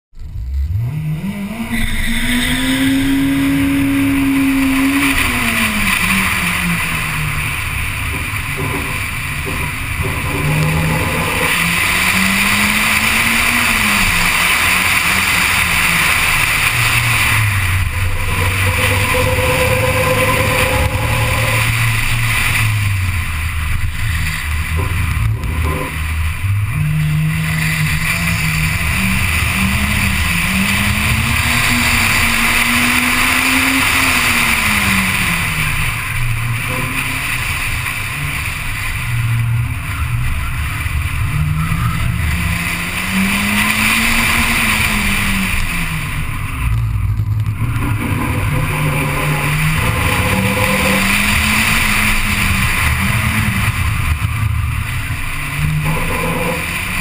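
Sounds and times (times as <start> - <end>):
race car engine revving: 0.2 - 57.0.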